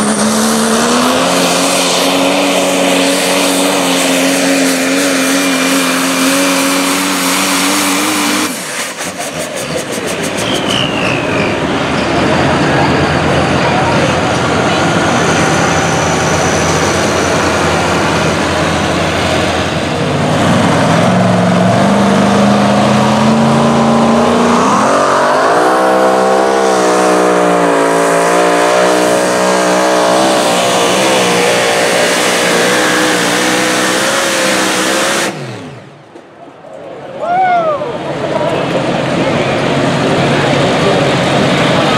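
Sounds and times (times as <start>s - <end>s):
truck engine at high revs: 0.0s - 36.4s, 38.0s - 41.9s
diesel pickup engine climbing: 0.0s - 41.9s.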